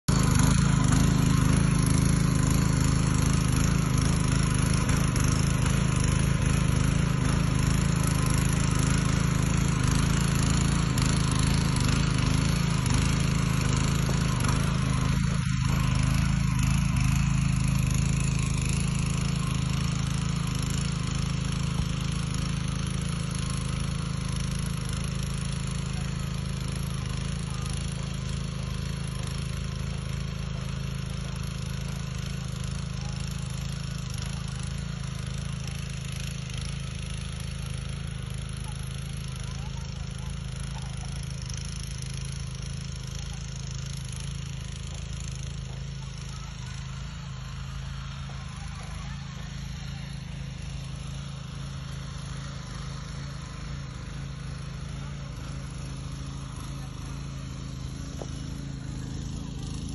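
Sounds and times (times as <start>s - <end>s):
power weeder engine tilling soil: 0.0s - 59.9s.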